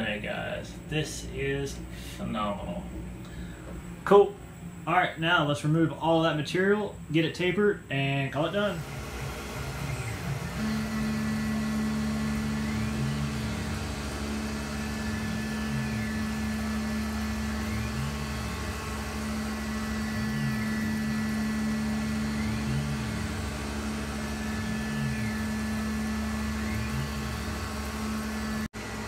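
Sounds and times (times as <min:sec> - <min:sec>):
milling spindle hum: 0:00.0 - 0:29.0.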